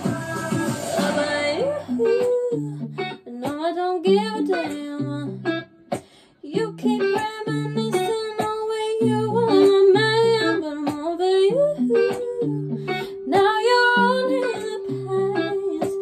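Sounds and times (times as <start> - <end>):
plucked acoustic guitar: 0.0 - 16.0
woman singing pop melody: 0.0 - 16.0.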